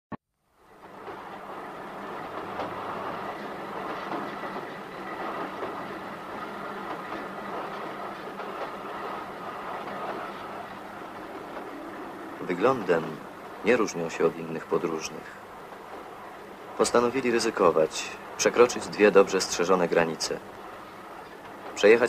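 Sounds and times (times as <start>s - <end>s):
train rattling on rails: 0.5s - 22.0s
wheels clickety-clack: 0.8s - 22.0s.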